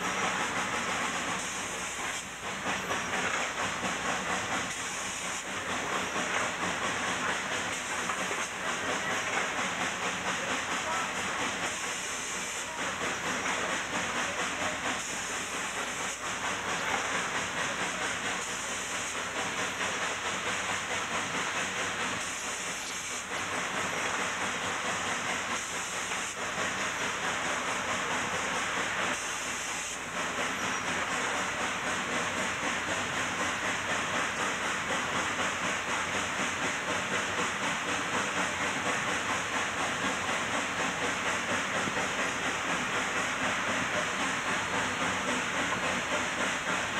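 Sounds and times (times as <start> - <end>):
steam locomotive exhaust beat: 0.0 - 46.9.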